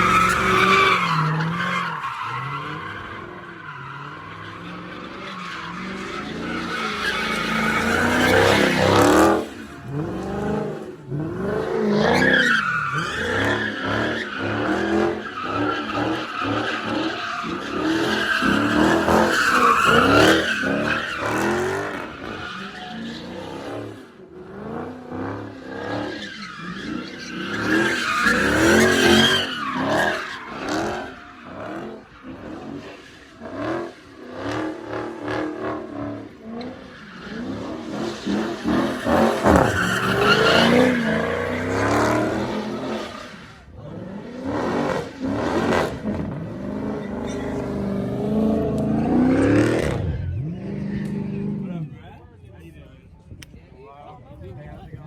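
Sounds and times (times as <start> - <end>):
car engine revving: 0.0 - 51.9
tires squealing and skidding: 0.0 - 52.0.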